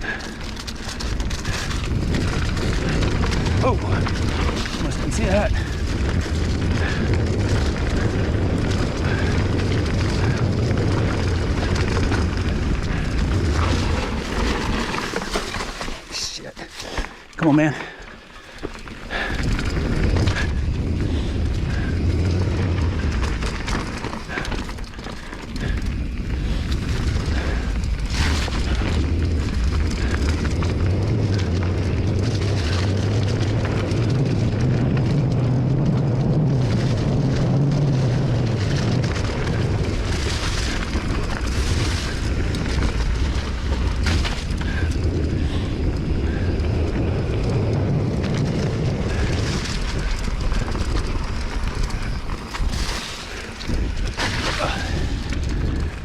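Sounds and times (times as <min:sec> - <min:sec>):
bike knocks and rattles: 0:00.0 - 0:56.0
bike trail noise: 0:00.0 - 0:56.0
wind buffeting microphone: 0:00.0 - 0:56.0.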